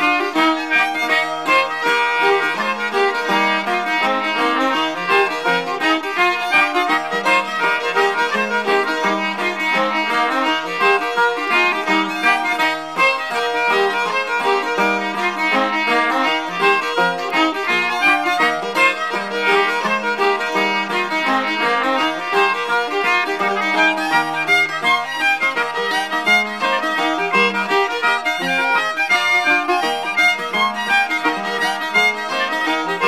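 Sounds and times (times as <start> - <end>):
quick fiddle tune: 0.0 - 33.0.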